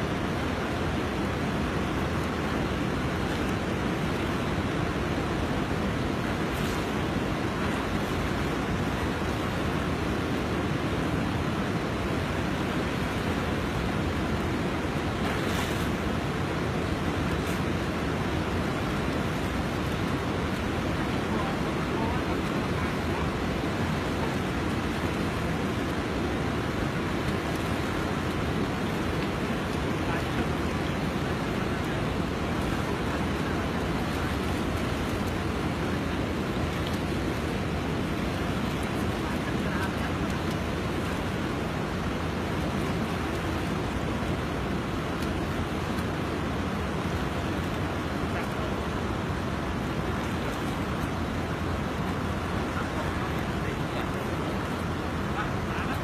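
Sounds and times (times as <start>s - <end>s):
fast-flowing river rushing: 0.0s - 56.0s.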